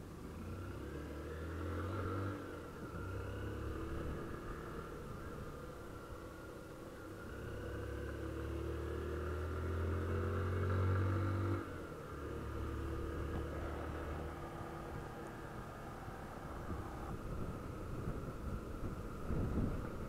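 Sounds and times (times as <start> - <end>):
motorcycle engine revving: 0.3 - 20.0.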